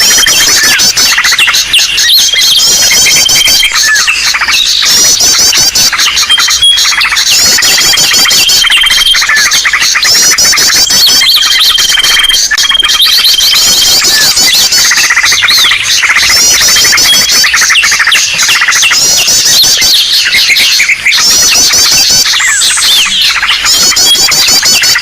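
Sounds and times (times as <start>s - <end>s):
small birds chirping and trilling: 0.0s - 25.0s.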